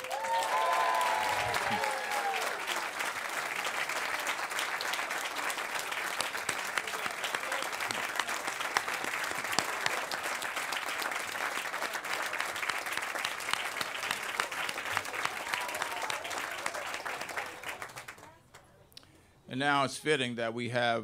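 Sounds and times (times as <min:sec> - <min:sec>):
audience clapping: 0:00.0 - 0:18.7.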